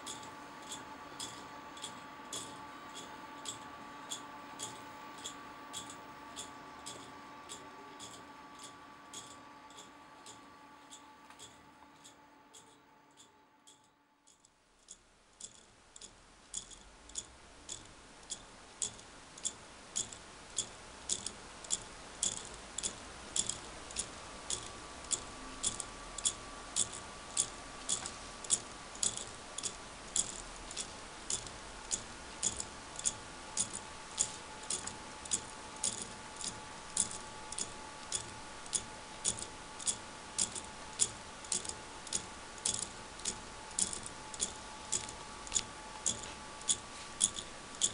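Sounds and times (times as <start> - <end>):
plastic clock ticking: 0.0 - 47.9.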